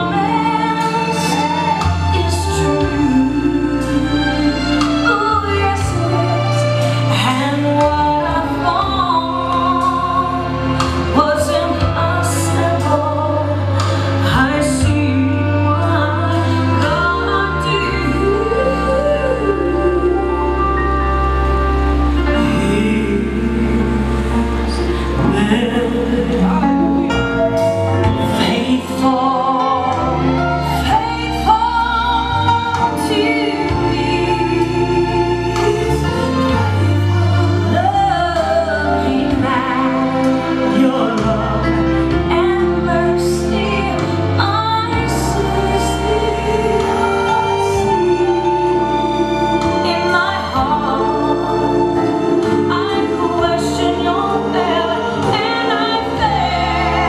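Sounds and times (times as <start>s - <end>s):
gospel lead vocal: 0.0s - 57.0s
sustained low bass notes: 0.0s - 57.0s.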